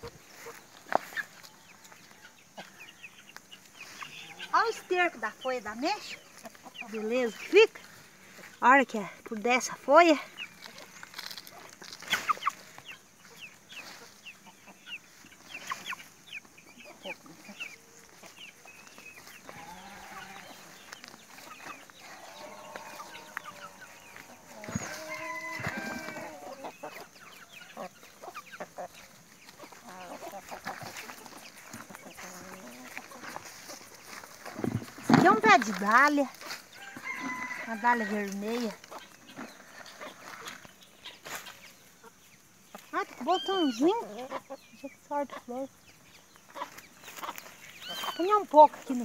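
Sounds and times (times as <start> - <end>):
chickens clucking and calling: 0.0 - 49.0.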